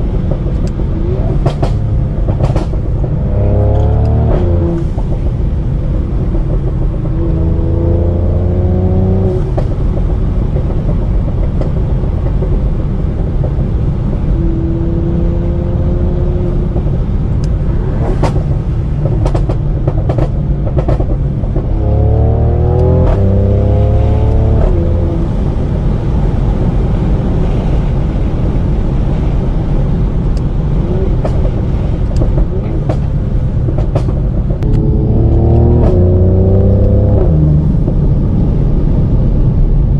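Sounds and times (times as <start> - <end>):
car engine revving: 0.0 - 39.2
exhaust crackles and pops: 0.2 - 14.9, 16.4 - 27.0, 29.8 - 39.4.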